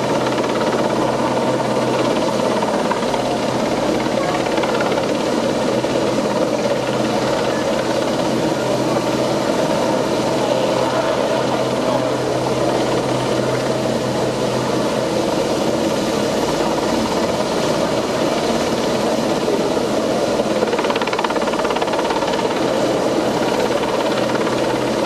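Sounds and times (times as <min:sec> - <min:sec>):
helicopter hovering: 0:00.0 - 0:25.0.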